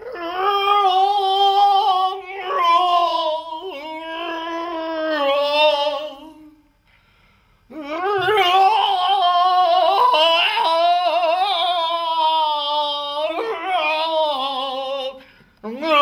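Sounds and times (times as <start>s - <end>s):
woman singing wordless tones: 0.0s - 6.6s, 7.7s - 16.0s.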